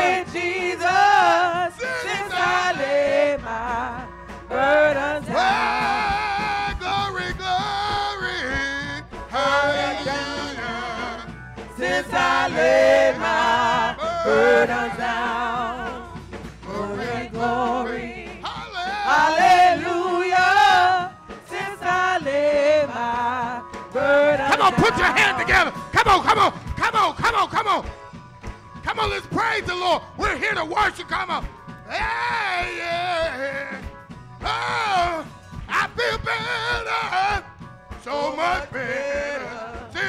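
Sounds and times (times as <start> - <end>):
women singing gospel: 0.0 - 25.8, 32.0 - 40.0.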